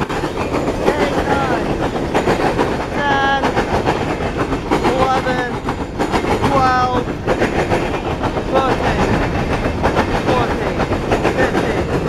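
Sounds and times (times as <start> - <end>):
freight train wheels rumbling: 0.0 - 12.0
wheels clicking over rail joints: 0.0 - 12.0.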